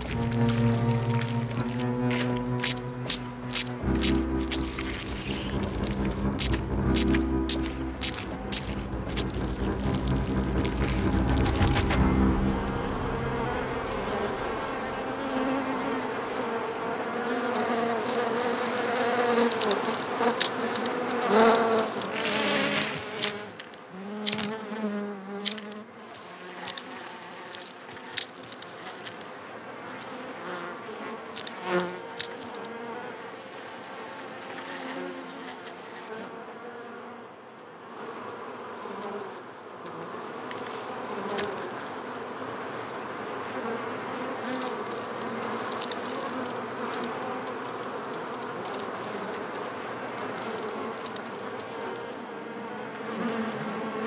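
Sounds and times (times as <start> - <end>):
honeybees buzzing: 0.0 - 37.2, 37.8 - 54.0.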